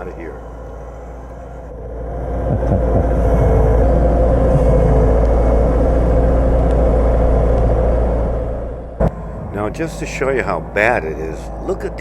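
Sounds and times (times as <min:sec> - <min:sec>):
loader engine running hard: 0:00.0 - 0:12.0.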